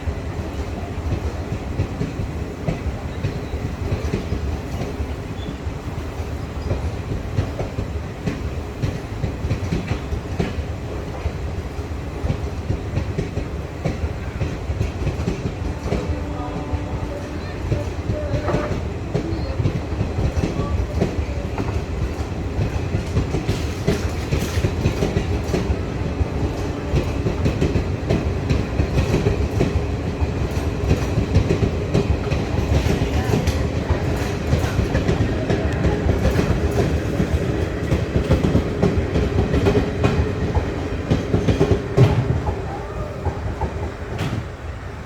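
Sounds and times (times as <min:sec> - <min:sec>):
train wheels clattering over rail joints: 0:00.4 - 0:44.6.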